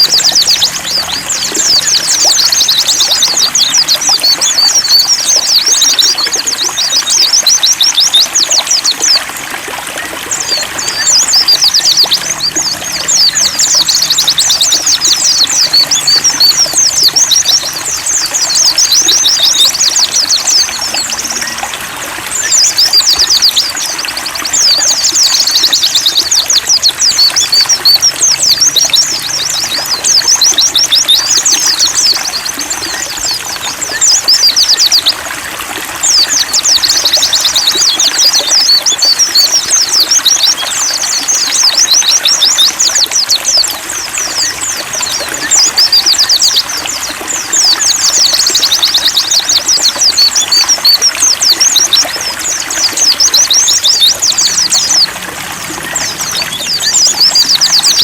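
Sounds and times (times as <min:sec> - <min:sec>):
songbirds twittering: 0:00.0 - 0:58.0
trickling water: 0:00.0 - 0:58.0.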